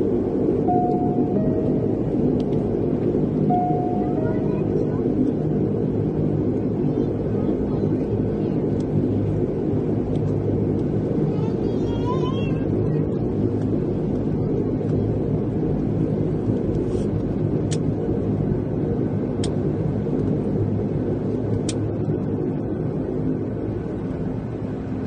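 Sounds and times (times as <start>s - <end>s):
turboprop engines droning: 0.0s - 25.0s.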